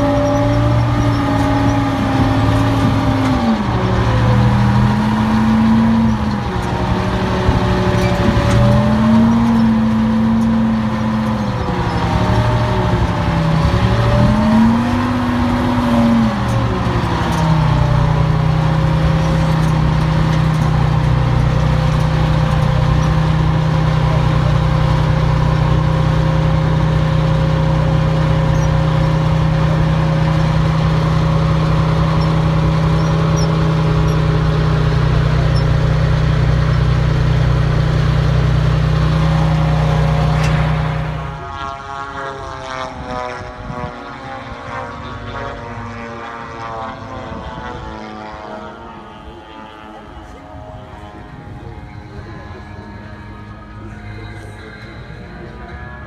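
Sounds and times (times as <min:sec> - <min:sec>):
military vehicle engine revving: 0:00.0 - 0:56.0.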